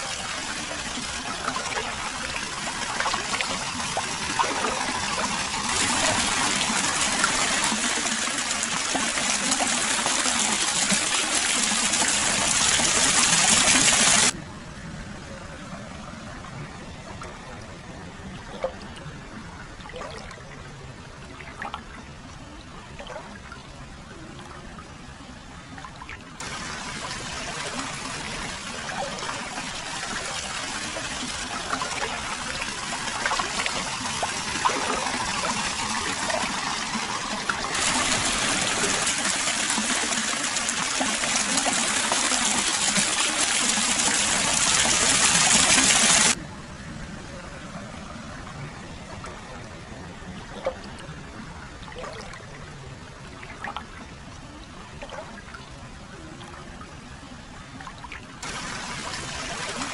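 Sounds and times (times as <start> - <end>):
small water splashes: 0.0 - 14.4, 17.0 - 24.7, 25.7 - 46.4, 48.5 - 59.9
water pouring and trickling: 0.0 - 14.4, 17.0 - 24.6, 25.8 - 46.4, 48.2 - 59.9.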